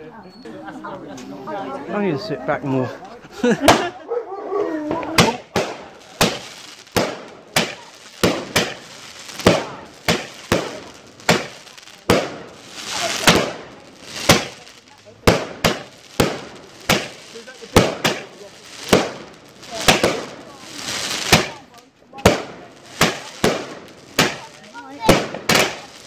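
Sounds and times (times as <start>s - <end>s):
fireworks bangs: 3.4s - 4.0s, 4.8s - 26.0s
crackling hiss: 5.0s - 26.0s.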